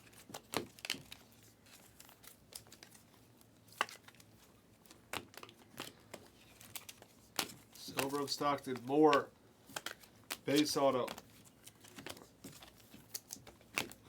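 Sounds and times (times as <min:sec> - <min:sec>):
card wrappers crinkling: 0:00.0 - 0:14.0.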